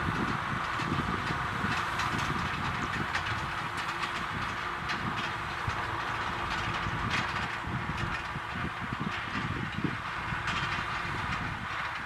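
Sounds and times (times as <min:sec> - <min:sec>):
tiller clattering and knocking: 0:00.0 - 0:12.0
tractor diesel engine under load: 0:00.0 - 0:12.0.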